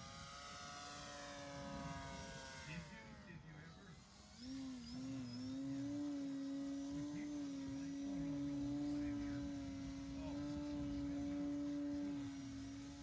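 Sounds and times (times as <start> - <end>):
model plane motor humming: 0.0 - 13.0.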